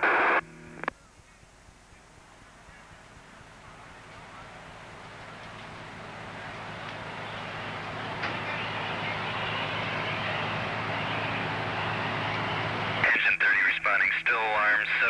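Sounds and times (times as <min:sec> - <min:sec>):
fire engine pumps humming: 0:01.6 - 0:15.0.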